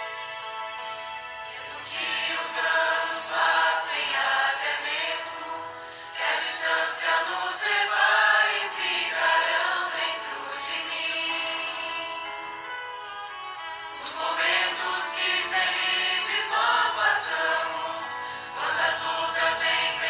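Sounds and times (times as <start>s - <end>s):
choir singing: 1.5s - 12.8s, 13.9s - 20.0s.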